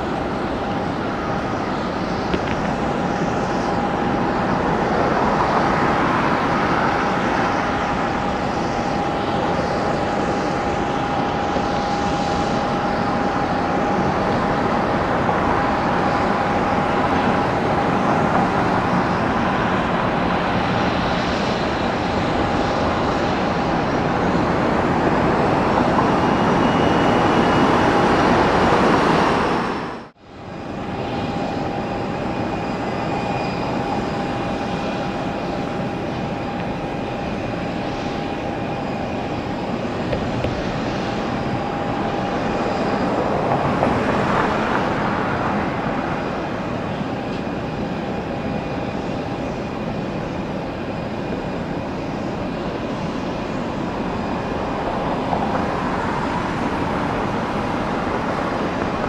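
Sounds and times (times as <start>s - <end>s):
broad rush of noise: 0.0s - 59.0s
jet engines whining: 0.0s - 59.0s.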